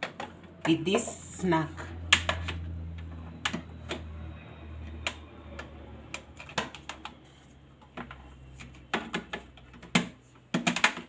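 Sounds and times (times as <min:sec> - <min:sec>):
kitchen things clicking and knocking: 0:00.0 - 0:04.3, 0:04.9 - 0:11.0.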